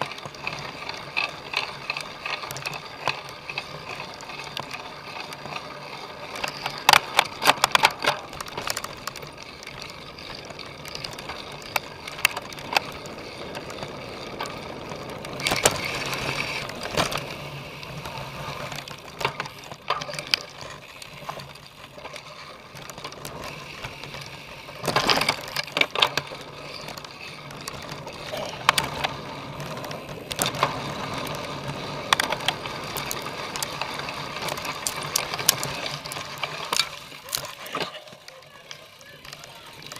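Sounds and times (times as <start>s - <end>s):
bike chain and frame rattling: 0.0s - 39.9s.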